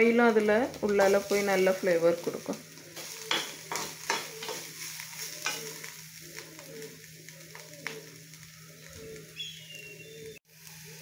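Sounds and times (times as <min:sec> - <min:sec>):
soft sizzle of frying: 0:00.0 - 0:11.0.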